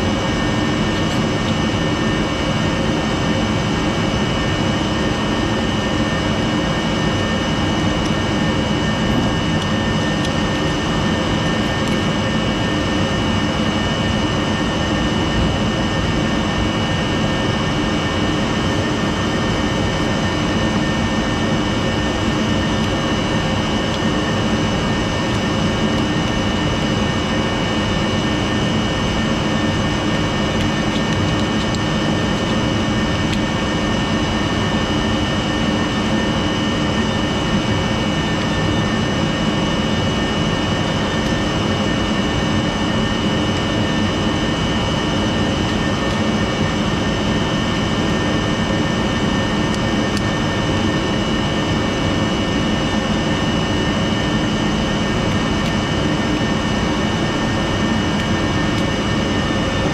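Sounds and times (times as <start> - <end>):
high machine whine: 0.0 - 59.9
machine drone: 0.0 - 59.9.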